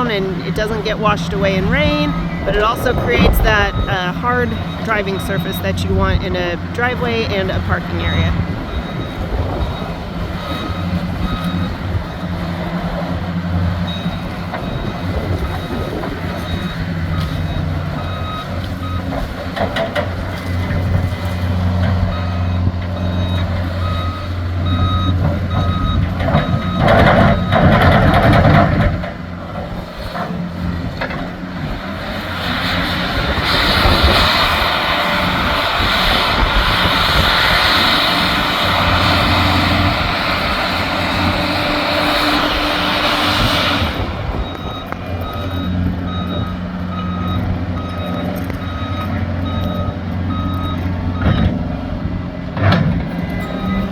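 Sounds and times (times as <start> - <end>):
reversing alarm beeping: 0.0 - 19.3, 20.2 - 30.1, 31.6 - 52.5, 53.1 - 53.9
loader engine running: 0.0 - 53.9.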